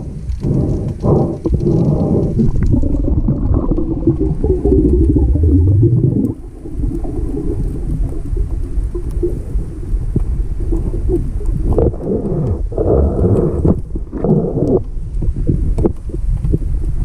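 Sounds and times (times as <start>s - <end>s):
water churning surges: 0.0s - 16.9s
underwater rumble of moving water: 0.0s - 17.0s.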